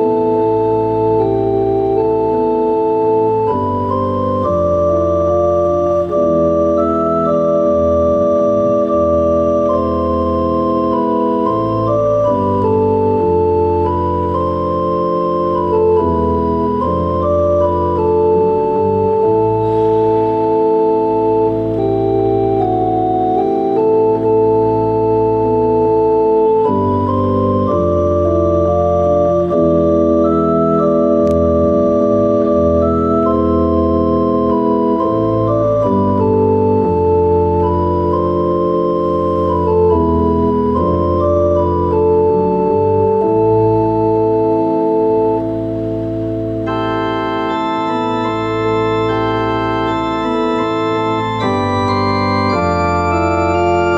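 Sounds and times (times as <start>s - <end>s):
pipe organ chords: 0.0s - 53.9s.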